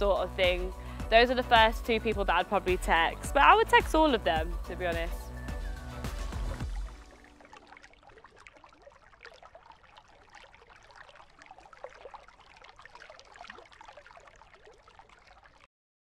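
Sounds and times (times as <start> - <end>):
small water drips: 0.0 - 15.7
water trickling and gurgling: 0.0 - 15.7.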